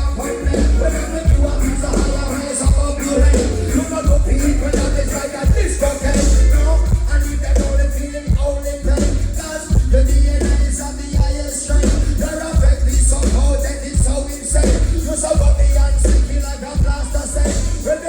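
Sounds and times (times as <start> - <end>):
steady drum hits: 0.0 - 17.8
heavy bass line: 0.0 - 18.0
live reggae band playing: 0.0 - 18.0.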